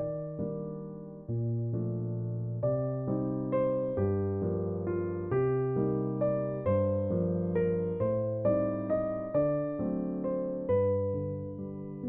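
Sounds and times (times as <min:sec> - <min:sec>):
electric piano chords: 0:00.0 - 0:12.0.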